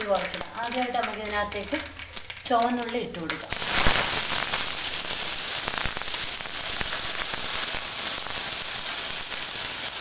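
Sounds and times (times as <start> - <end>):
mustard seeds popping in oil: 0.0 - 10.0
shallots sizzling in oil: 0.0 - 10.0.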